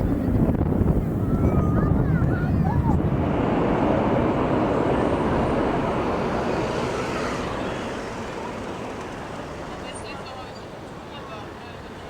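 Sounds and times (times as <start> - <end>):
jet airliner engine noise: 0.0 - 12.0.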